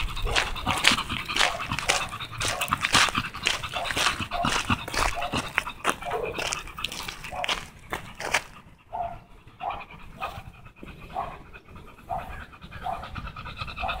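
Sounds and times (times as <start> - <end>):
dog panting: 0.0 - 14.0.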